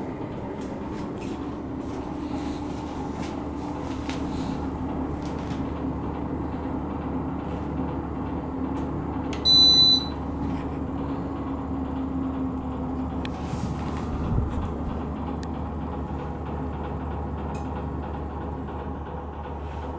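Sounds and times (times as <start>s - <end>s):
fan heater humming: 0.0s - 19.9s.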